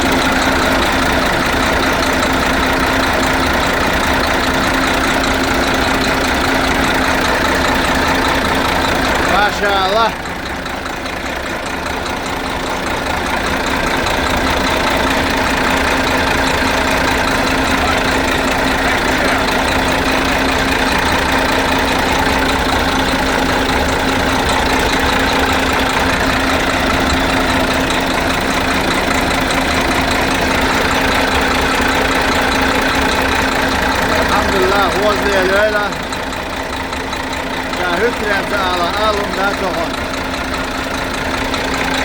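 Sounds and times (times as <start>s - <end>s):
diesel truck engine idling: 0.0s - 42.0s.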